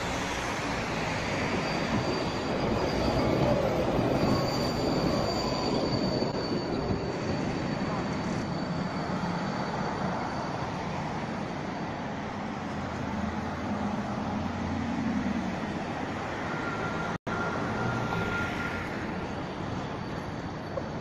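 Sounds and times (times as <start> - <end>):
tram moving along rails: 0.0 - 21.0.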